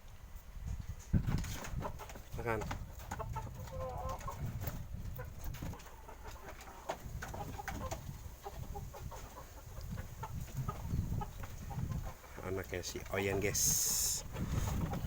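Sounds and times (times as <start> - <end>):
chickens clucking: 0.6 - 15.0.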